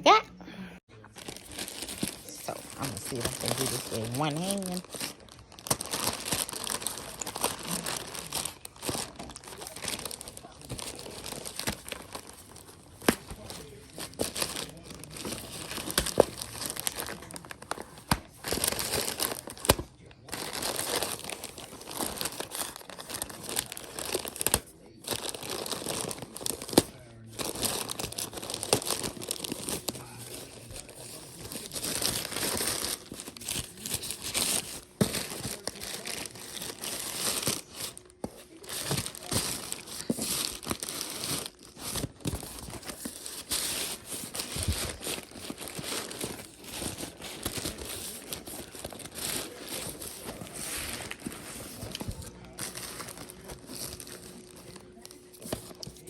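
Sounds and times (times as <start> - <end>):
packaging crinkling and ripping: 1.0 - 56.0.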